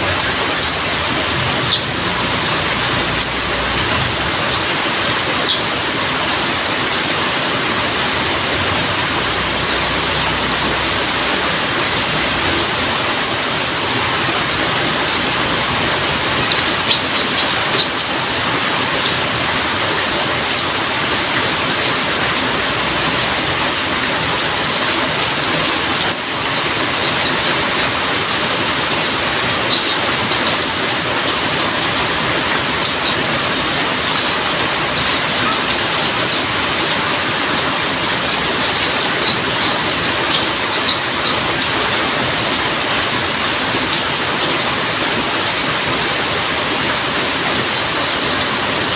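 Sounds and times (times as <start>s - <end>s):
heavy rain falling: 0.0s - 48.9s
rain drop ticks: 0.0s - 48.9s.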